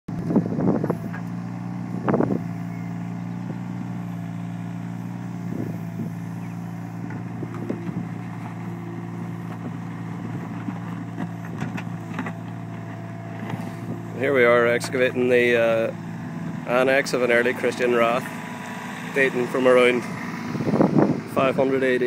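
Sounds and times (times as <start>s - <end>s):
excavator diesel engine running: 0.1s - 22.0s.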